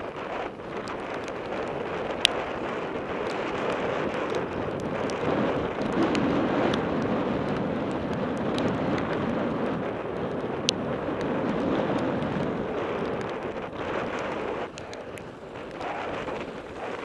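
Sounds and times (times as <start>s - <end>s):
bike rattling clicks: 0.0s - 17.0s
tyre and wind noise: 0.0s - 17.0s.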